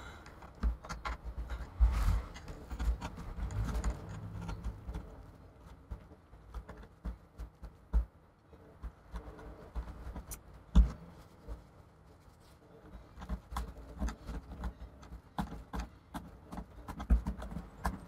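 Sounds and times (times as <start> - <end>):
hands tapping and clicking on computer: 0.3 - 1.6, 2.5 - 11.6, 13.1 - 18.0.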